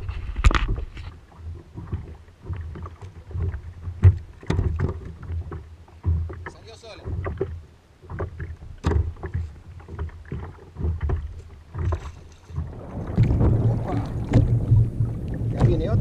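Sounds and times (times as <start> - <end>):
knocks and splashes: 0.0 - 16.0
water lapping against kayak hull: 0.0 - 16.0
wind: 0.0 - 16.0.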